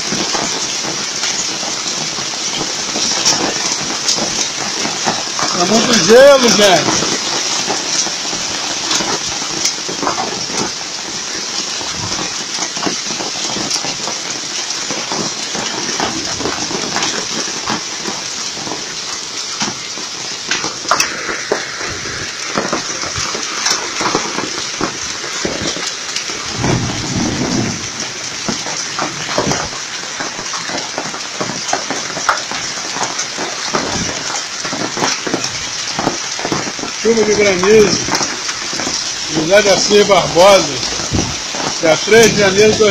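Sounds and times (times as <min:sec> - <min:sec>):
hailstones striking: 0:00.0 - 0:42.9
heavy rain hissing: 0:00.0 - 0:42.9.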